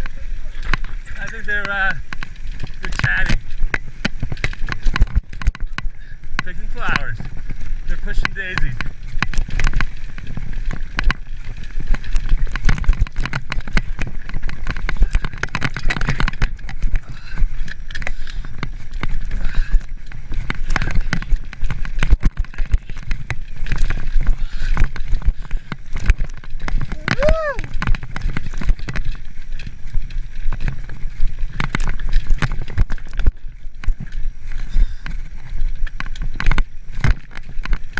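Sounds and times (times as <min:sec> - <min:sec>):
bike rattling: 0:00.0 - 0:37.9
bike tyres crunching on dirt: 0:00.0 - 0:37.9.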